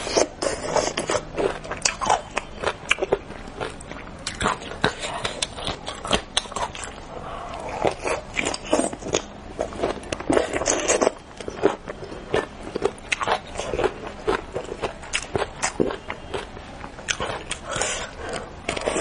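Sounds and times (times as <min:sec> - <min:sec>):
person chewing with wet smacks: 0:00.0 - 0:19.0.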